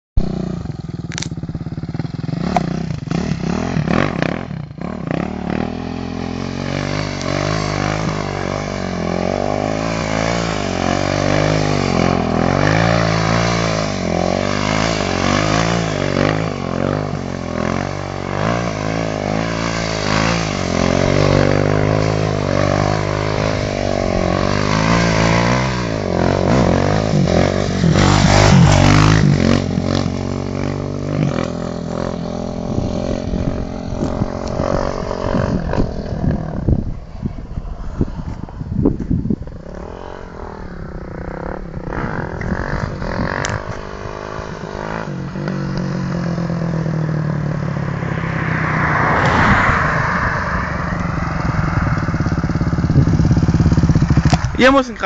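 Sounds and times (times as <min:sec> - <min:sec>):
motocross bike engine revving: 0:00.2 - 0:36.7, 0:39.6 - 0:47.7.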